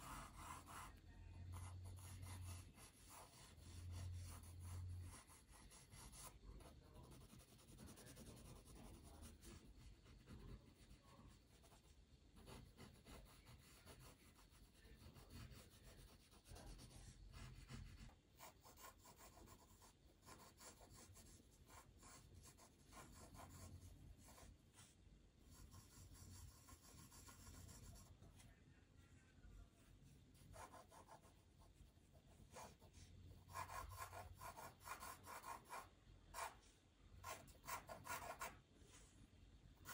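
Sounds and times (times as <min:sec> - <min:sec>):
pencil scratching on paper: 0:00.0 - 0:24.9, 0:25.5 - 0:28.2, 0:30.3 - 0:38.6.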